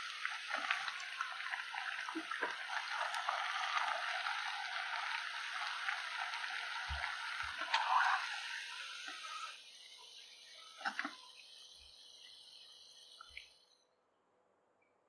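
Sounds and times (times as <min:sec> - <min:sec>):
fritters sizzling in hot oil: 0:00.0 - 0:12.6.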